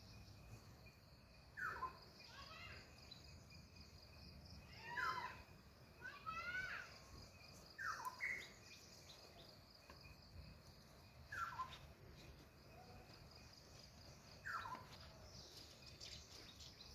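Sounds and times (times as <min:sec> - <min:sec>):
faint outdoor noise: 0:00.0 - 0:16.9
high-pitched insect hum: 0:00.0 - 0:16.9.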